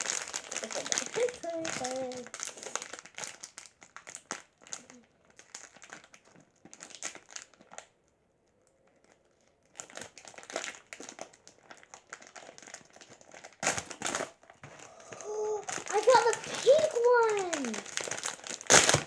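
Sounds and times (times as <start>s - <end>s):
packaging crinkling and rustling: 0.0s - 8.1s, 8.8s - 19.0s.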